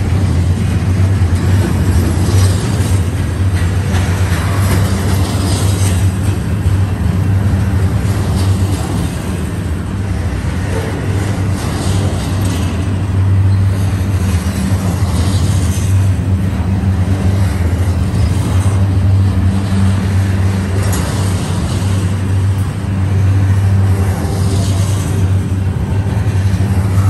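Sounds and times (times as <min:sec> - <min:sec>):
freight train wheels rumbling: 0:00.0 - 0:27.0.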